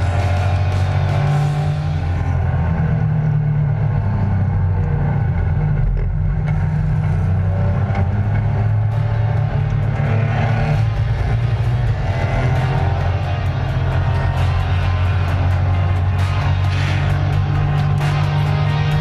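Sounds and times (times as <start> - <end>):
race car engine drone: 0.0 - 19.0.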